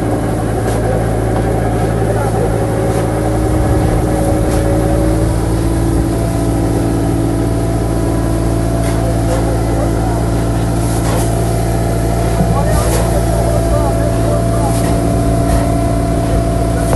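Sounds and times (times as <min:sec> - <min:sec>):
boat engine droning: 0:00.0 - 0:16.9.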